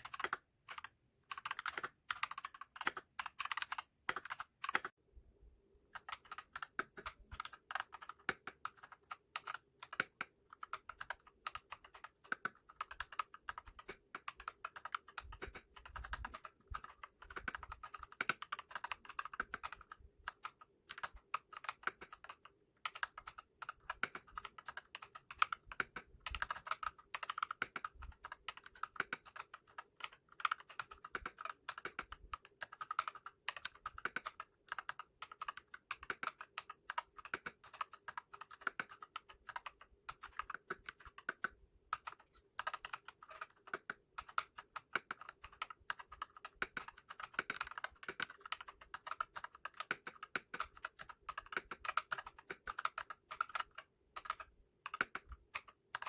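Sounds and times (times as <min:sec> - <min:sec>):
mechanical keyboard typing: 0:00.0 - 0:04.9, 0:06.0 - 0:56.0.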